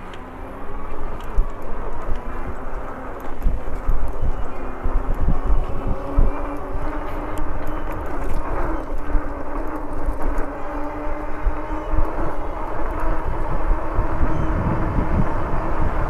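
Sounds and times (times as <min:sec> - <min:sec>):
electric motor hum: 0:00.0 - 0:16.0
wind buffeting microphone: 0:00.0 - 0:16.0.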